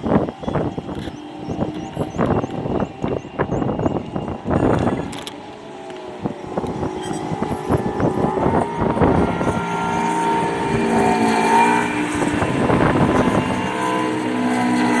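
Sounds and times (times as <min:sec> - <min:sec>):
machine whining: 0:00.0 - 0:15.0.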